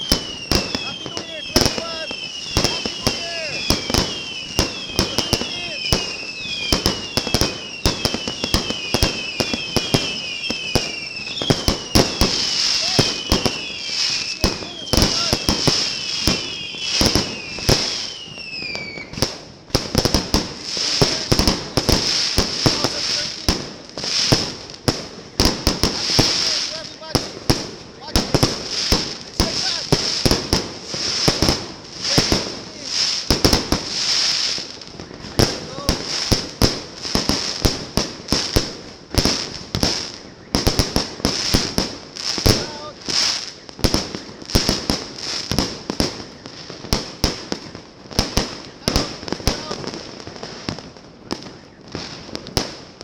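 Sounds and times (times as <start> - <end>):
fireworks bangs: 0.0 - 53.0
fireworks whistles falling in pitch: 0.0 - 53.0.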